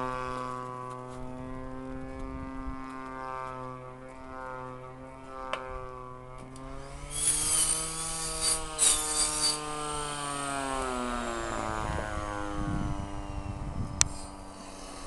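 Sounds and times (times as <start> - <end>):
model aeroplane engine buzzing: 0.0 - 15.0.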